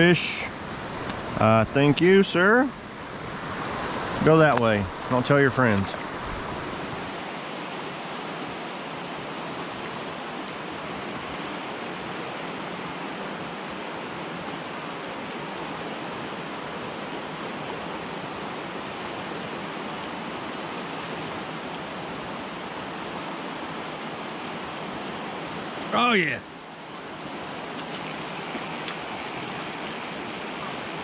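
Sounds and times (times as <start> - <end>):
mountain creek rushing: 0.0 - 31.0.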